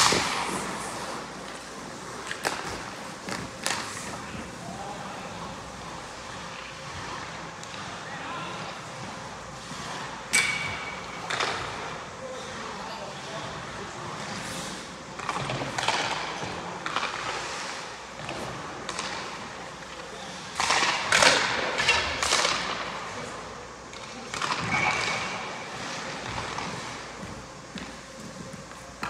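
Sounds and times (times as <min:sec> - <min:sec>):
skate blades scraping on ice: 0:00.0 - 0:22.9, 0:24.1 - 0:29.0.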